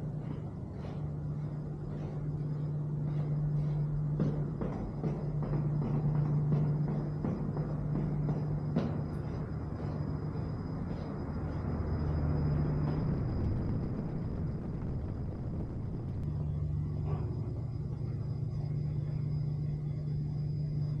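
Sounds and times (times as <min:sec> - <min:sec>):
high-pitched whine: 0:00.0 - 0:21.0
low mechanical hum: 0:00.0 - 0:21.0.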